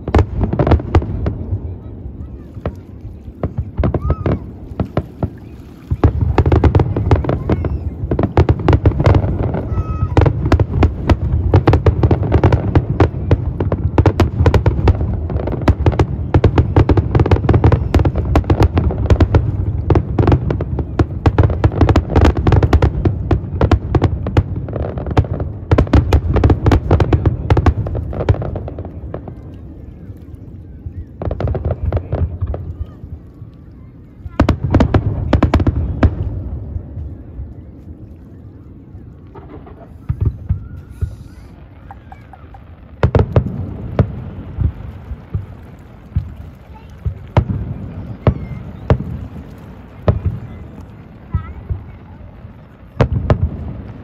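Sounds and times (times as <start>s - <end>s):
fireworks cracks and bangs: 0.0s - 54.0s.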